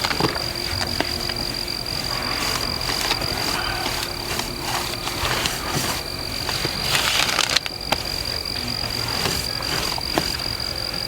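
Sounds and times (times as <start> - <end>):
high-pitched insect trill: 0.0 - 11.0
insects and frogs chorus: 0.0 - 11.0.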